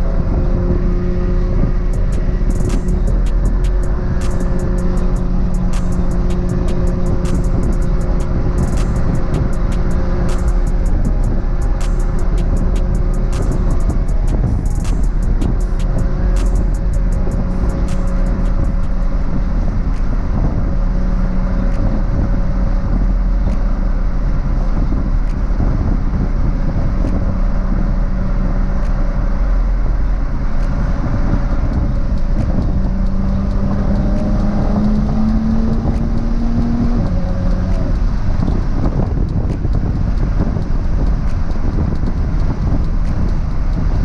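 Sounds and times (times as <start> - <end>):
car engine hum: 0.0 - 44.0
road and wind rumble: 0.0 - 44.0.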